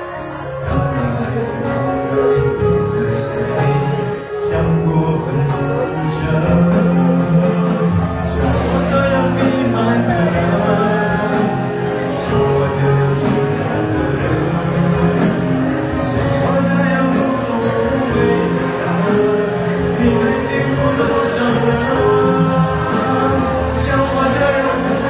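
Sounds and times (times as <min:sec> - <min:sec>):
man singing into a microphone: 0:00.0 - 0:25.0
pop backing track with drum beat: 0:00.0 - 0:25.0.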